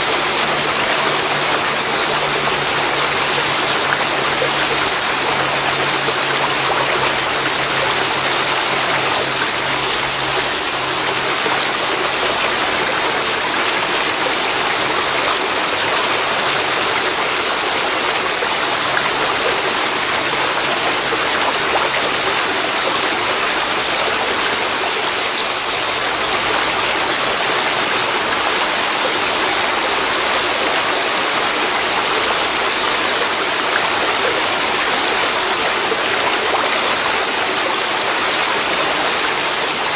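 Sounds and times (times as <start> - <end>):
waterfall pouring into river: 0.0 - 39.9.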